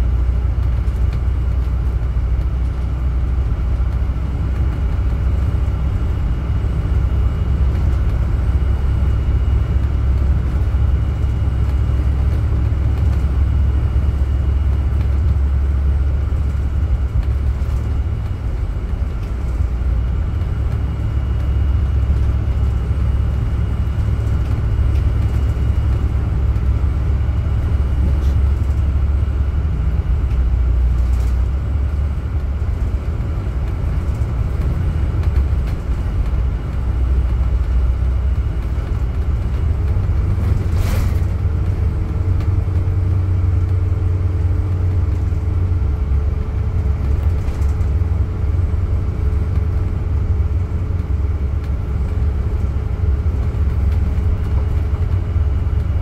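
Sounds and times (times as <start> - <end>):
low rumble of engine and road: 0.0 - 56.0.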